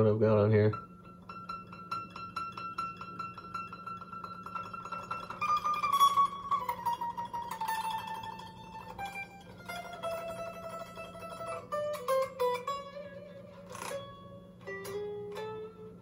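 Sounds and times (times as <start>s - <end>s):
guitar plucked notes descending: 0.0s - 16.0s.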